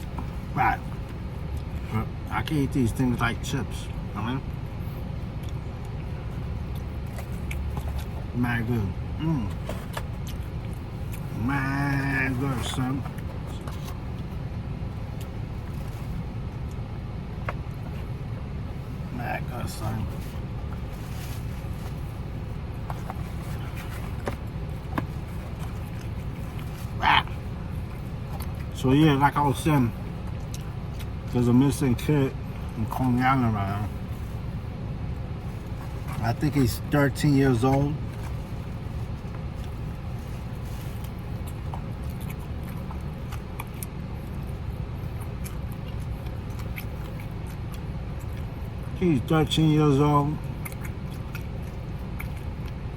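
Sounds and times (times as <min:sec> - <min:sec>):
low outdoor rumble: 0:00.0 - 0:52.9.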